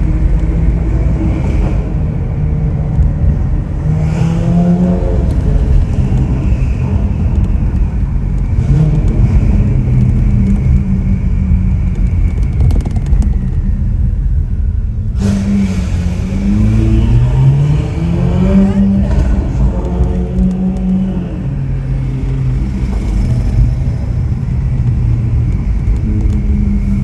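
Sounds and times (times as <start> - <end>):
sports car engine accelerating: 0.0 - 27.0.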